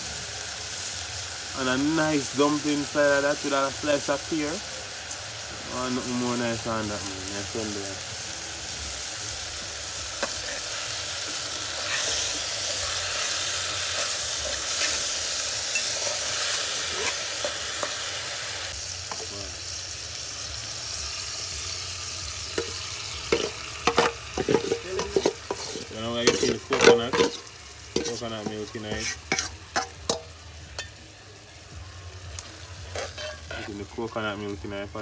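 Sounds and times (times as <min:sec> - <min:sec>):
food sizzling in hot oil: 0:00.0 - 0:35.0.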